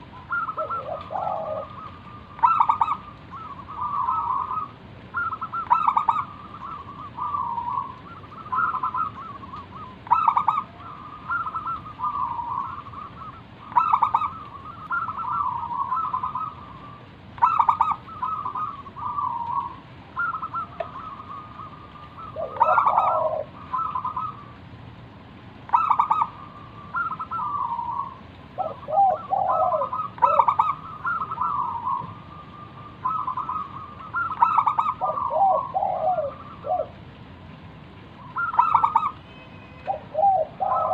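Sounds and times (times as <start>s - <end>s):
dove cooing song: 0.0s - 24.8s, 25.6s - 39.2s, 39.8s - 40.9s
lower-pitched bird calls: 0.0s - 24.8s, 25.6s - 40.9s.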